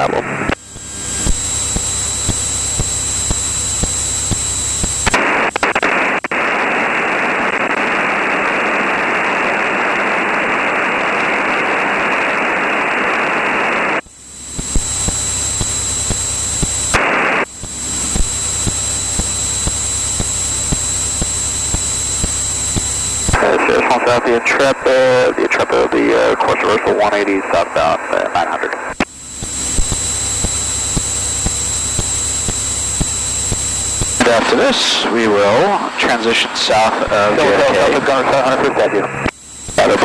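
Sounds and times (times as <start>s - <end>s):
piston aircraft engine drone: 0.0s - 40.0s
radio static hiss: 0.0s - 40.0s.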